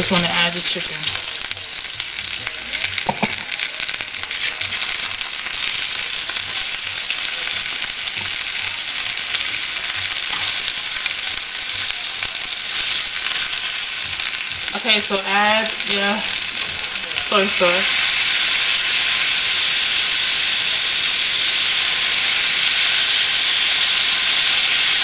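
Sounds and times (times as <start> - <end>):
chicken frying in hot oil: 0.0 - 25.0.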